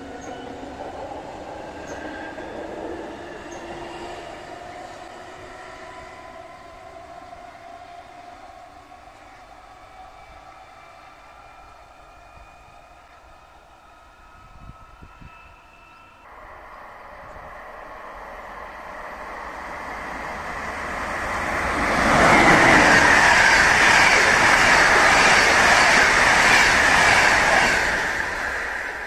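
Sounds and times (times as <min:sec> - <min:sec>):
train passing with rumble: 0:00.0 - 0:29.0.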